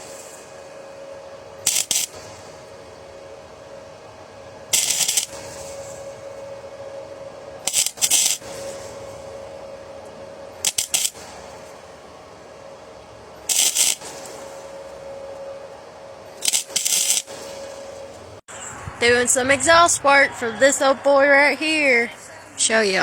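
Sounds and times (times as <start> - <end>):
welding bursts: 0.0 - 18.4
steady faint hum: 0.0 - 23.0.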